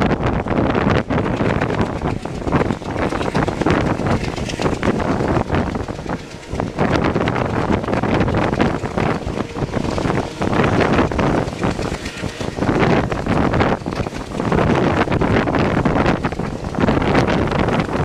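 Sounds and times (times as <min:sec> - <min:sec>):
train rumbling on track: 0:00.0 - 0:18.0
wind buffeting microphone: 0:00.0 - 0:18.0.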